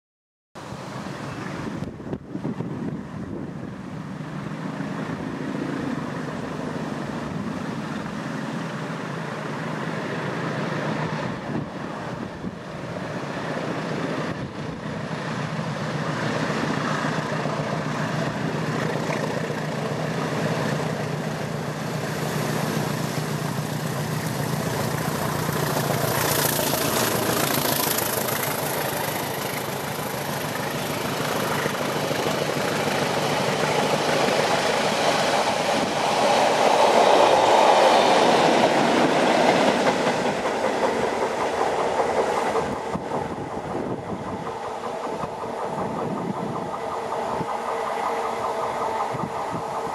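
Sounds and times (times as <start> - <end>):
diesel locomotive engines droning: 0.6 - 49.9.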